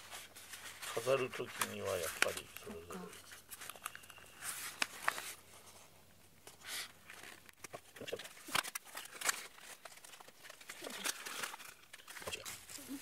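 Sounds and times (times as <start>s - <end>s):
paper wrapping rustling: 0.0s - 13.0s.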